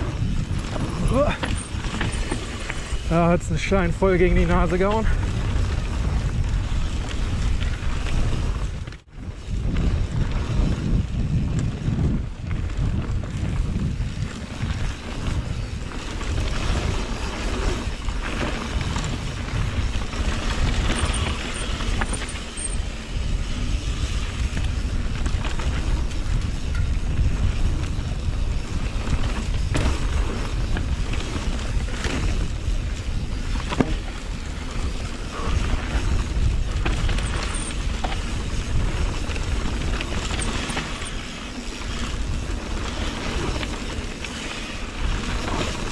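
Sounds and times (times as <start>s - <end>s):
bike knocking and rattling: 0.0s - 45.9s
tyres rumbling on rocky trail: 0.0s - 45.9s
wind buffeting microphone: 0.0s - 45.9s.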